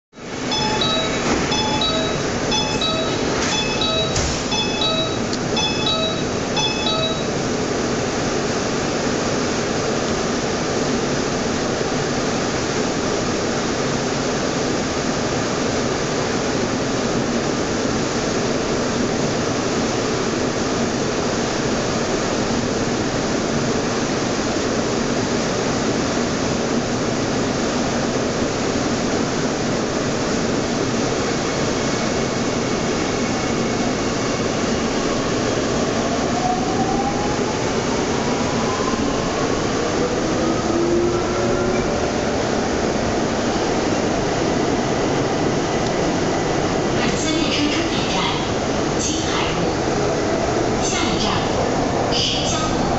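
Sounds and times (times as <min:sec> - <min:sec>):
metro wheels rumbling on rail: 0:00.2 - 0:52.9.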